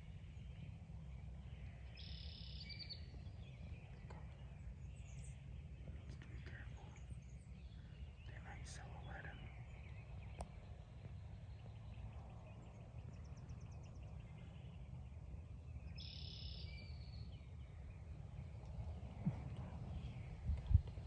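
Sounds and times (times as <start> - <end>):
low wind rumble: 0.0 - 21.0
small birds calling: 0.0 - 21.0.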